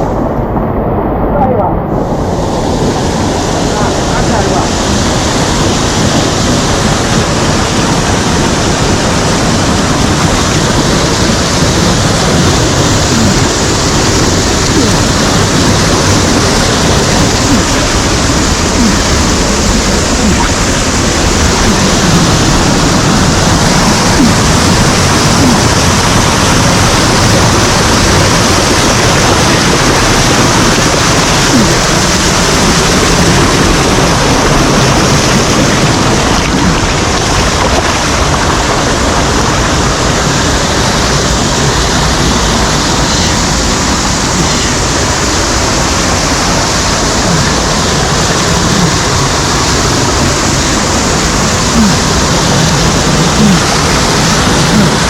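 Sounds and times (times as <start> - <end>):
water rushing over cascades: 0.0 - 55.0.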